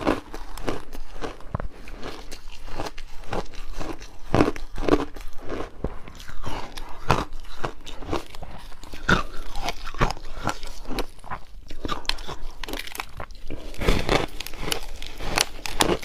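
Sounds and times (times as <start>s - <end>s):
ice being crunched: 0.0s - 16.0s.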